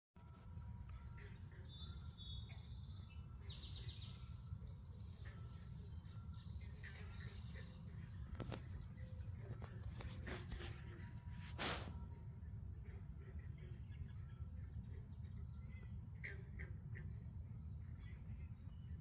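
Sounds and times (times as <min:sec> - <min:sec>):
birds chirping and trilling: 0:00.3 - 0:19.0.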